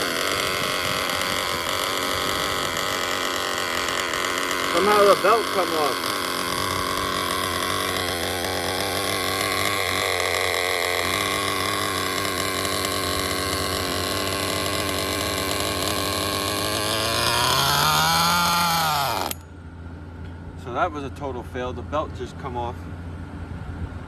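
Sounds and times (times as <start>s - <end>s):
nitro engine idling and revving: 0.0s - 24.0s.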